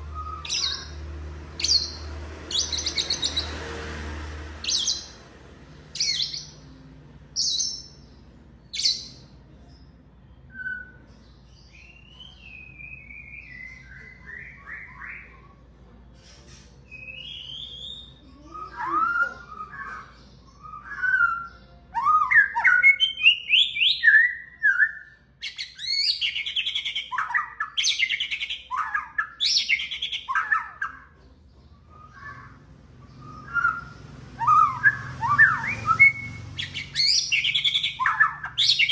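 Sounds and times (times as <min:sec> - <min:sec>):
bird singing whistled notes: 0:00.0 - 0:03.6, 0:04.6 - 0:05.2, 0:05.9 - 0:06.6, 0:07.4 - 0:09.3, 0:10.3 - 0:15.7, 0:16.5 - 0:31.1, 0:31.7 - 0:38.9
bird chirps: 0:00.0 - 0:04.0, 0:04.6 - 0:38.9.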